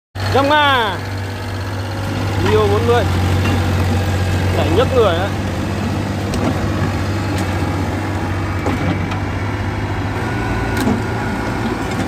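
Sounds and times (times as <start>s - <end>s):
diesel excavator engine running: 0.2s - 12.0s.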